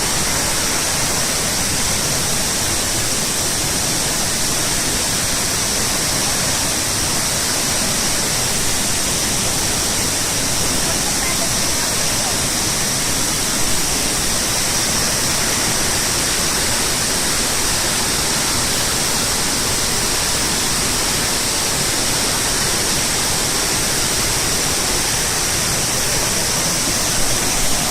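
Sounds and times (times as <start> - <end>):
waterfall rushing and splashing: 0.0 - 27.9.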